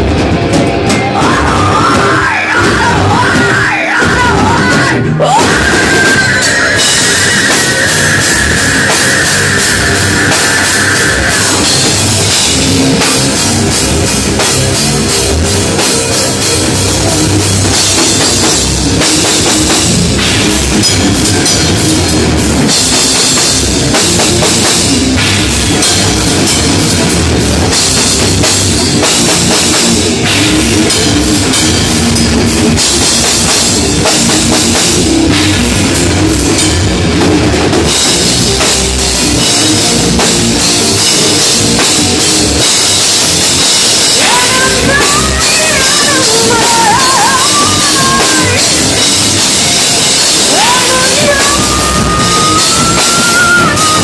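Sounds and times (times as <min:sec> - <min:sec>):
bass guitar: 0:00.0 - 0:54.0
drum kit with cymbals: 0:00.0 - 0:54.0
electric guitar: 0:00.0 - 0:54.0.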